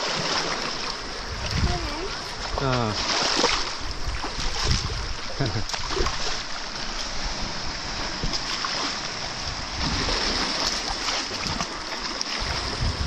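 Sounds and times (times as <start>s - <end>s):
small waves washing: 0.0s - 13.0s.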